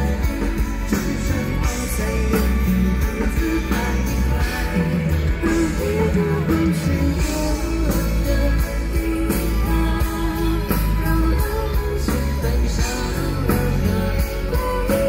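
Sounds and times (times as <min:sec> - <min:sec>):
pop-rock band playing slow song: 0:00.0 - 0:15.0.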